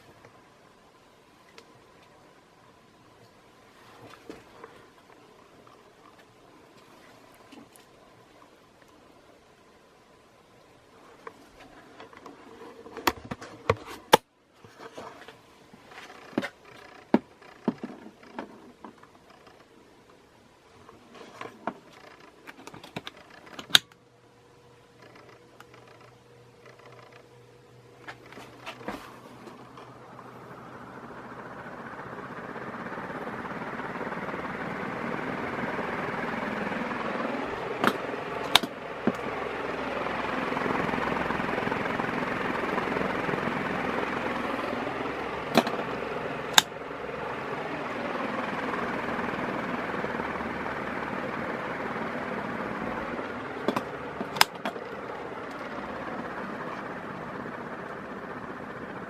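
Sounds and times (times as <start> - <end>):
ceiling fan running: 0.0 - 59.0.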